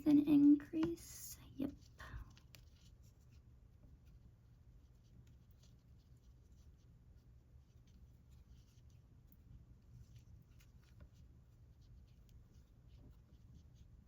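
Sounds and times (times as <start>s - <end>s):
yarn rustling with crochet hook: 0.0s - 14.0s.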